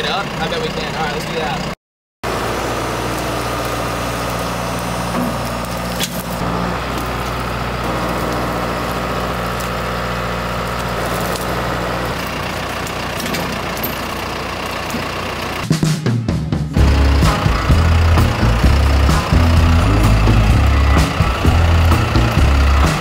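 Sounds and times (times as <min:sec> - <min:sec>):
tractor diesel engine running: 0:00.0 - 0:15.7, 0:16.8 - 0:23.0.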